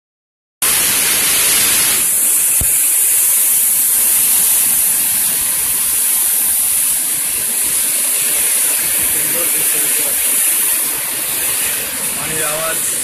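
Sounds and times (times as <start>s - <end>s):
white water rushing: 0.6s - 13.0s.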